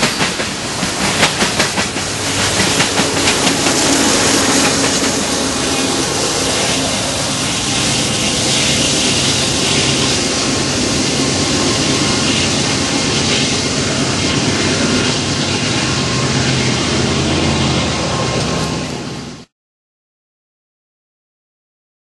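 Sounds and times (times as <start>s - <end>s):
low diesel engine drone: 0.0s - 19.5s
train rumble and wheel hiss: 0.0s - 19.5s.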